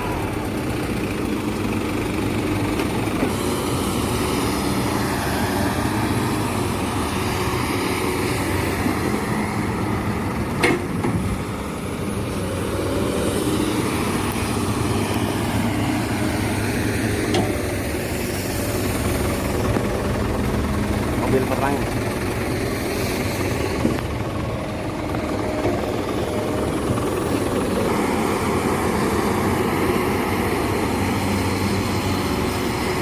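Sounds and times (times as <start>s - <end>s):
heavy diesel engines running: 0.0s - 33.0s.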